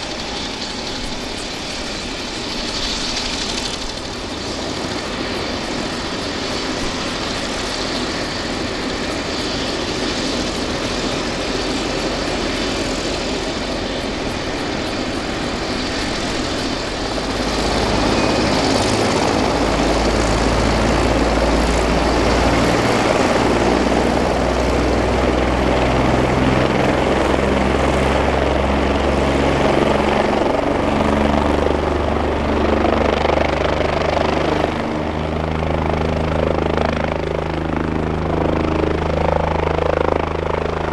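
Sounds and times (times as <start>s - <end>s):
helicopter turbine and rotors: 0.0s - 40.9s.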